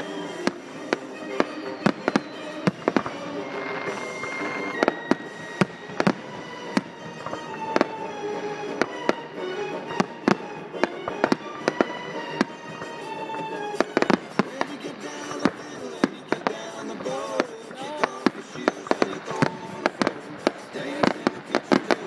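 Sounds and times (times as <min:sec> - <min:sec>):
fireworks bangs: 0:00.0 - 0:22.0
music: 0:00.0 - 0:22.0.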